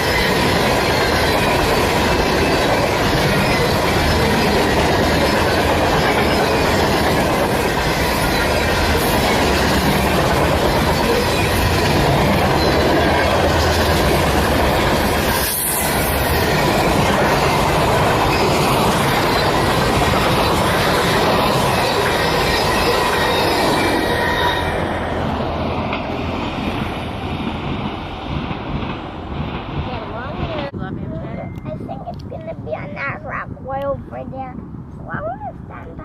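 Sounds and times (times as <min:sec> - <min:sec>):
train wheels on rails: 0:00.0 - 0:33.1.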